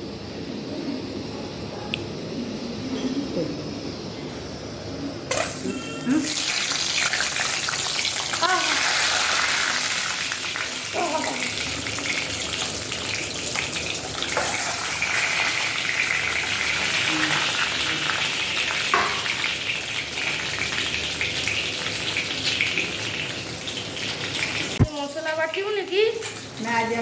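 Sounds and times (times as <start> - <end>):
eggs sizzling in hot oil: 5.3 - 27.0.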